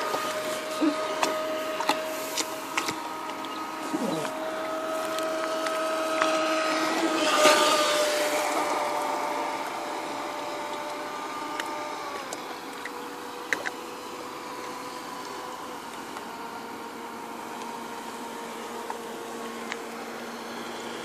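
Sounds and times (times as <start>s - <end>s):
model speedboat motor whining: 0.0s - 21.0s.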